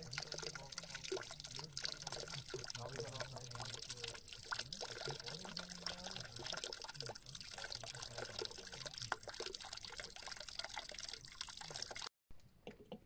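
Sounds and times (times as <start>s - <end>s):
small water splashes: 0.0s - 12.1s
water trickling and dripping: 0.0s - 13.0s.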